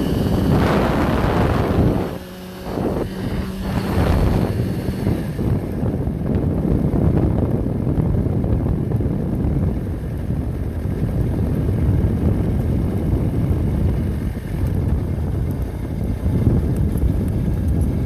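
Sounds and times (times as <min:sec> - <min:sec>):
motorcycle engine: 0:00.0 - 0:18.0
road noise: 0:00.0 - 0:18.0
wind on microphone: 0:00.0 - 0:18.0.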